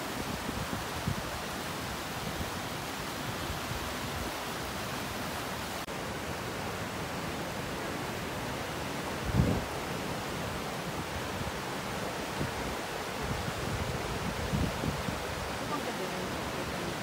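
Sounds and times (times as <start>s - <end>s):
creek rushing over rocks: 0.0s - 17.0s.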